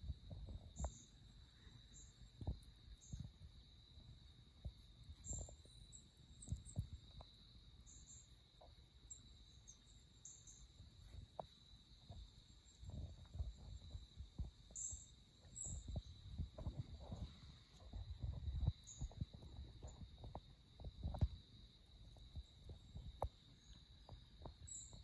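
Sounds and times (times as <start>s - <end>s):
soft low thumps and rustles: 0.0s - 1.2s, 2.3s - 7.4s, 10.8s - 25.0s.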